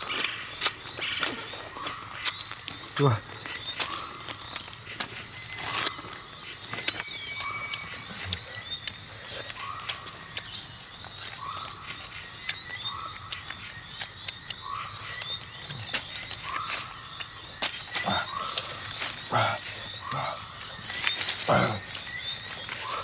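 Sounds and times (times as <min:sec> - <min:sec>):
sharp clicks and crackles: 0:00.0 - 0:23.0.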